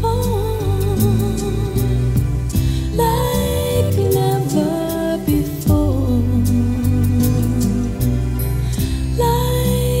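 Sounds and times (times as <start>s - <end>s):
slow gentle background music: 0.0s - 10.0s.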